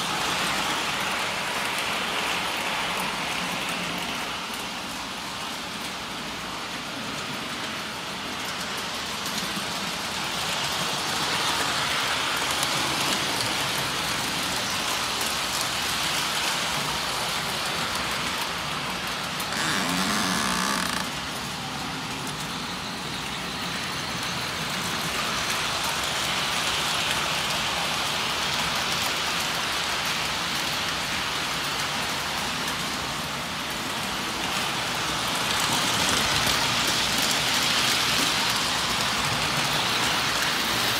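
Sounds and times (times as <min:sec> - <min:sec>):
toy train wheels on metal rails: 0:00.0 - 0:40.9.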